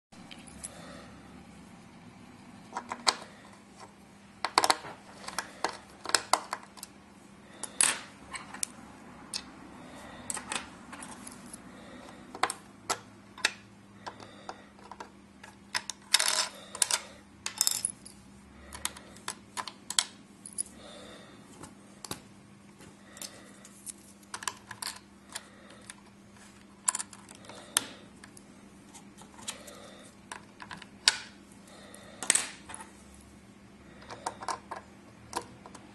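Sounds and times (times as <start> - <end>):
faint steady hum: 0.2 - 35.9.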